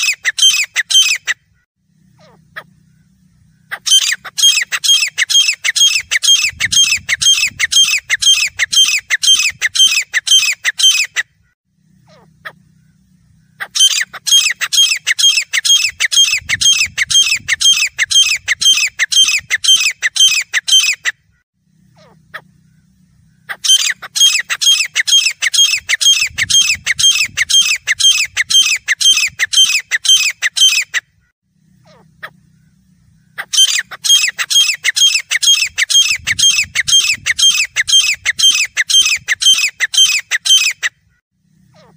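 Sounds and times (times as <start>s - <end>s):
francolin calling: 0.0s - 40.8s.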